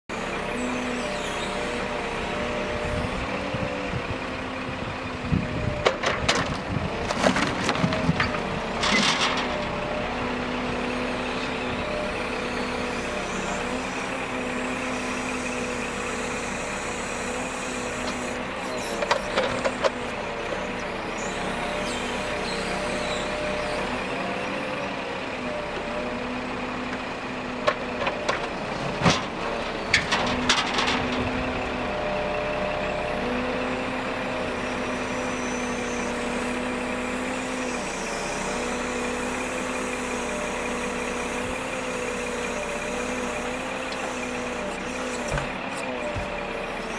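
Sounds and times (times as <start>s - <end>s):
forwarder engine and hydraulic crane: 0.1s - 46.9s.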